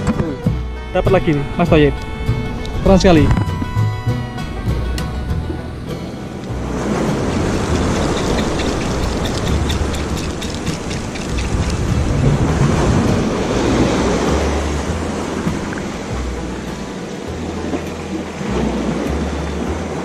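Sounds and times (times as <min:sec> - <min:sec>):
wind buffeting microphone: 0:01.2 - 0:20.0.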